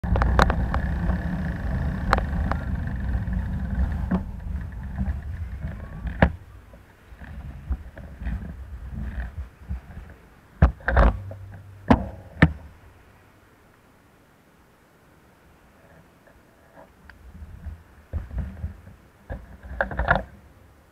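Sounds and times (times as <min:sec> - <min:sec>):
wind rumble on camera: 0:00.0 - 0:13.2, 0:15.6 - 0:20.9.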